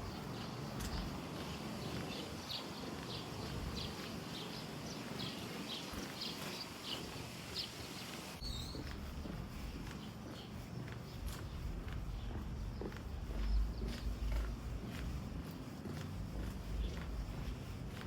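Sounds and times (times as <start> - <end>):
footsteps walking: 0.0 - 18.0
wind buffeting microphone: 0.0 - 18.0.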